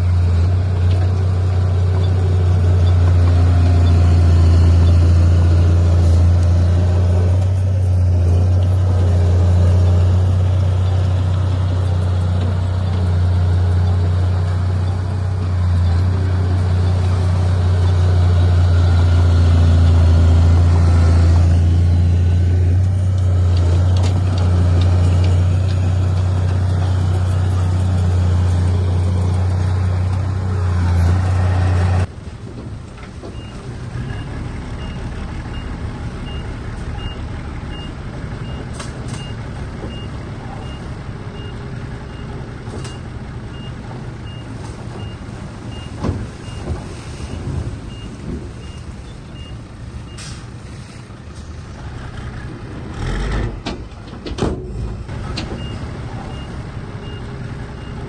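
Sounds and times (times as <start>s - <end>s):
heavy diesel engine droning: 0.0s - 58.0s
quieter machinery noise: 0.0s - 58.0s.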